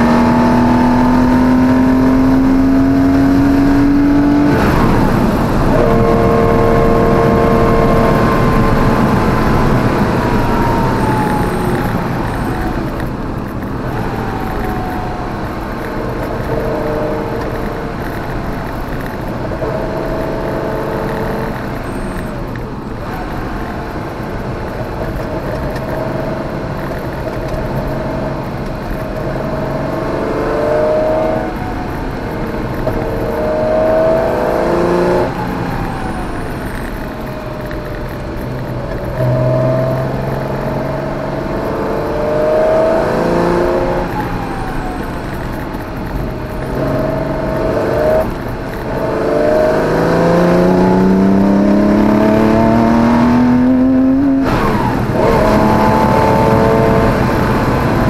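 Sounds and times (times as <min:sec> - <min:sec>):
car engine from inside cabin: 0:00.0 - 0:58.0.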